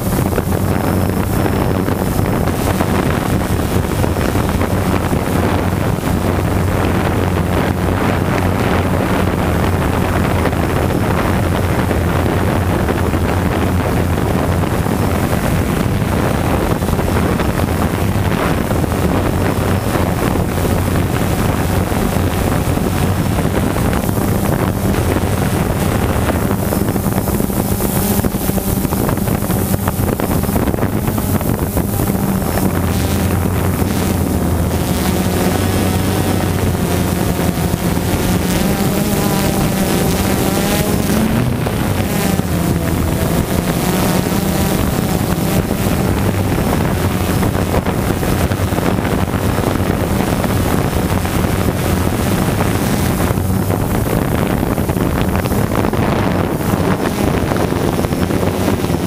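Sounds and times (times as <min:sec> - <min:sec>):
drone propellers buzzing: 0:00.0 - 0:59.0
low hum: 0:00.0 - 0:59.0
wind noise on microphone: 0:00.0 - 0:59.0.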